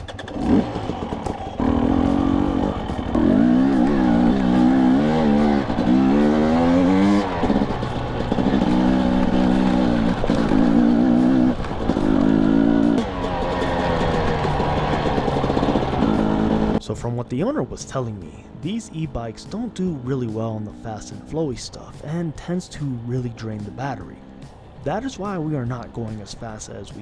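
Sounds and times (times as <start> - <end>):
dirt bike engine revving: 0.0 - 16.9, 17.9 - 27.0.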